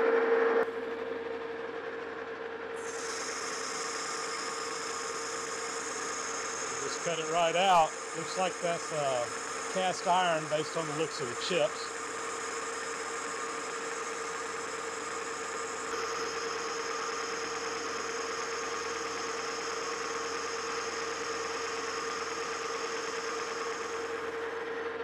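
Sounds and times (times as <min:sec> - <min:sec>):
metal lathe humming: 0:02.8 - 0:24.5.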